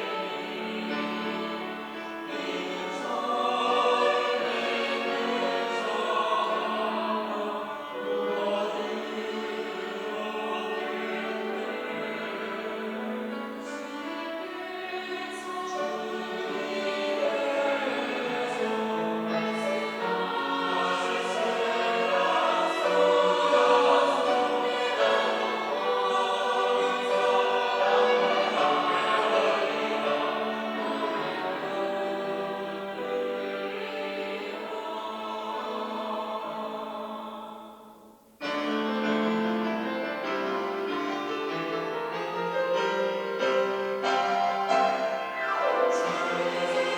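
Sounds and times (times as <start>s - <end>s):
church choir singing: 0.0s - 46.9s.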